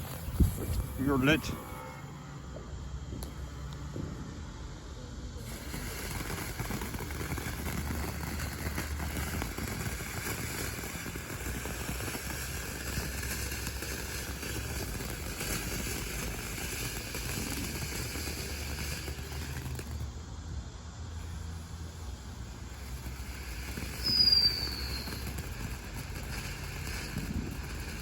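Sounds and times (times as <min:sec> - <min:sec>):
firework fountain hissing: 0:00.0 - 0:03.9, 0:05.3 - 0:28.0.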